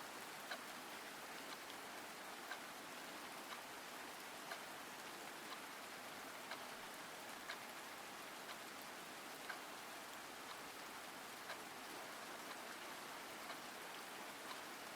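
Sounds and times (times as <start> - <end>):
rain falling: 0.0 - 14.9
faint tick: 0.2 - 14.9.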